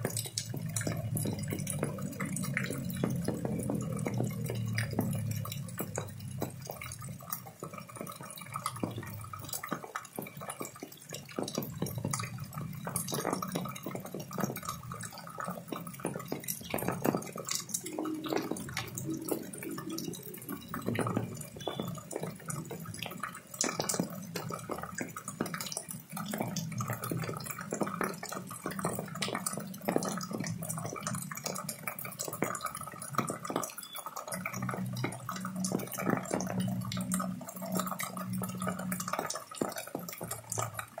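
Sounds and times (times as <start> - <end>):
rainwater pouring and dripping: 0.0 - 41.0.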